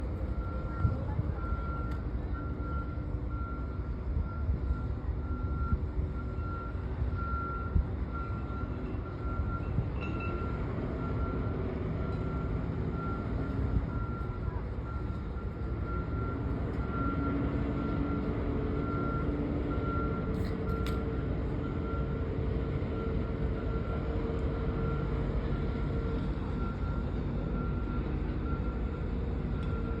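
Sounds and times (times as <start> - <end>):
boat engine rumbling: 0.0 - 30.0.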